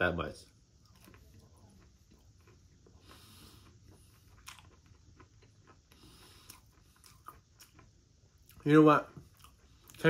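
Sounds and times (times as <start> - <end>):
faint chewing: 0.4 - 10.0.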